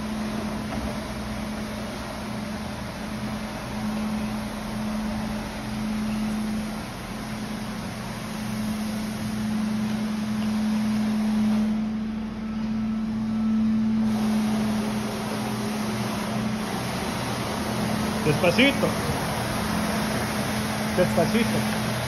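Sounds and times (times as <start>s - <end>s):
floor scrubber motor hum: 0.0s - 22.0s.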